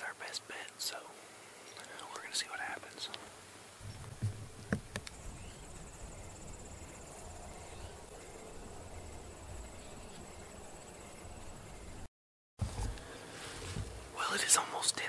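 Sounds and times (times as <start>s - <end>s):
insects trilling: 0.0s - 12.1s.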